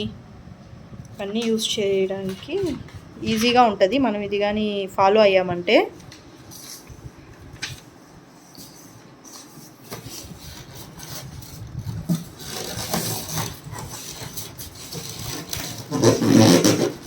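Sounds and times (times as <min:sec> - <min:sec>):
packaging and paper rustling: 0:01.2 - 0:03.8, 0:06.0 - 0:17.0.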